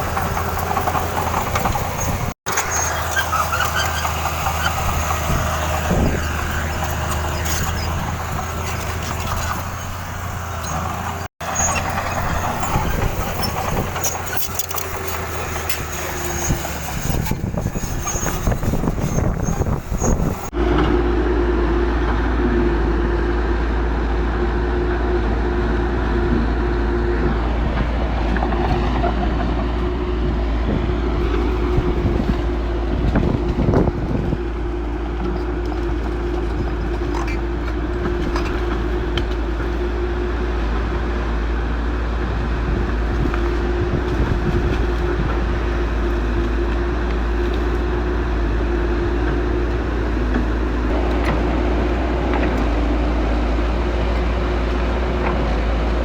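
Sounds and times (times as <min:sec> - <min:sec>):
diesel machinery clattering: 0:00.0 - 0:23.0, 0:26.3 - 0:56.0
diesel engine drone: 0:00.0 - 0:56.0.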